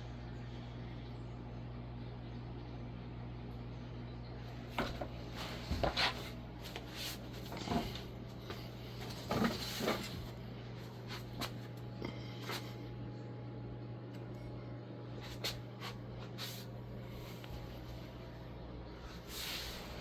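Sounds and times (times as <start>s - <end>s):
ceiling fan motor humming: 0.0s - 20.0s.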